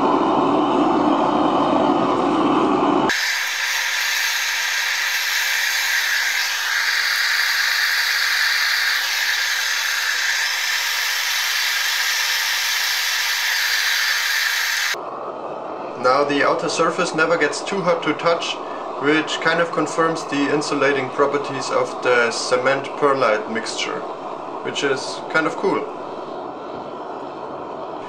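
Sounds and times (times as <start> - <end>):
burner flame roaring and hissing: 0.0 - 28.0.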